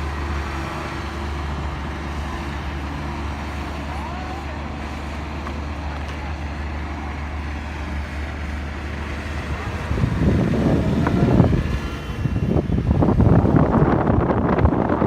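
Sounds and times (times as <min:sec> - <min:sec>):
car engine and road noise: 0:00.0 - 0:15.0
rough rumble: 0:00.0 - 0:15.0.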